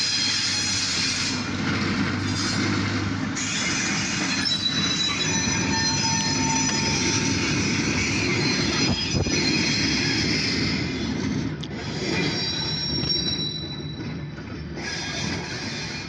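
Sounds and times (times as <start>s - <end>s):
high wheel squeal: 0.0s - 16.0s
train wheels on rail: 0.0s - 16.0s.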